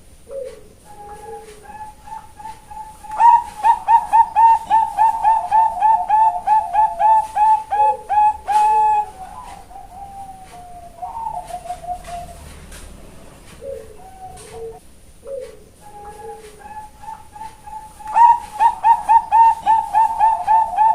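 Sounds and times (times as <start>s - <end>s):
zebra dove cooing: 0.2s - 20.9s.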